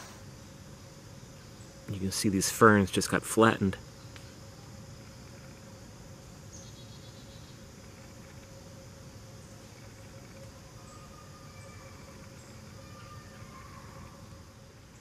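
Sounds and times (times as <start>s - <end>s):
insects calling: 0.0s - 15.0s.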